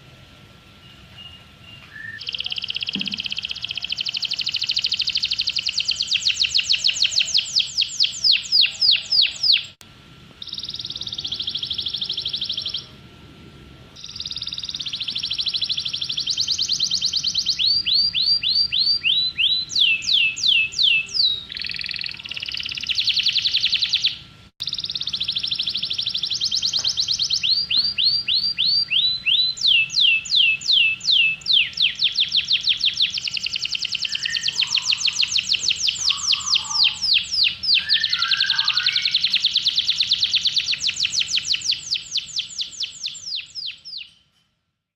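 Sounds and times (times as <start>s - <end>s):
songbird singing fast trills: 0.8s - 9.8s, 10.4s - 12.9s, 14.0s - 44.2s.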